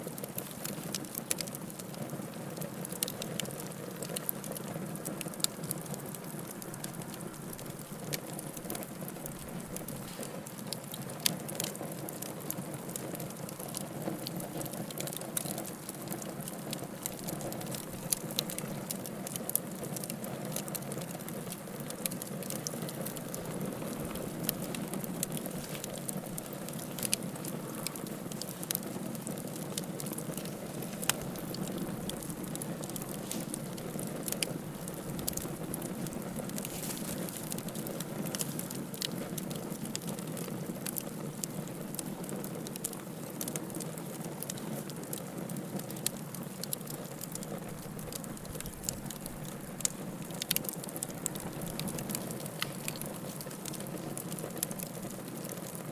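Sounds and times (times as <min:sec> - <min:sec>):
sharp pops and snaps of fire: 0:00.0 - 0:55.9
wood fire crackling: 0:00.0 - 0:55.9.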